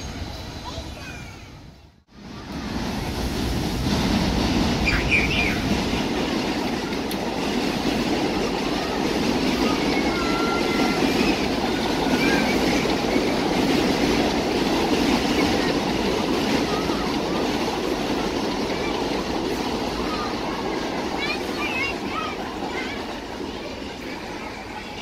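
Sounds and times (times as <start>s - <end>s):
subway train wheels rumbling: 0.0s - 25.0s.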